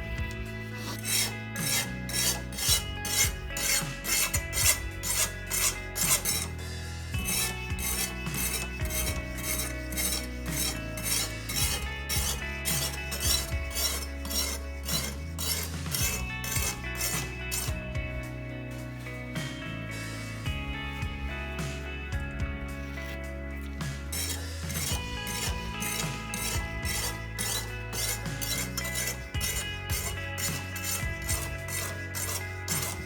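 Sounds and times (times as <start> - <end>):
stone rasping along knife edge: 0.0 - 17.8, 22.8 - 33.0
background music: 0.0 - 33.0.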